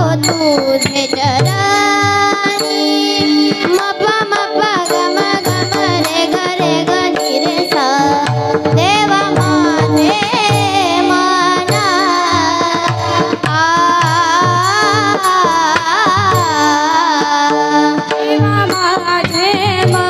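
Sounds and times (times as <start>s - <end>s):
girls singing: 0.0s - 20.0s
tabla beat: 0.0s - 20.0s.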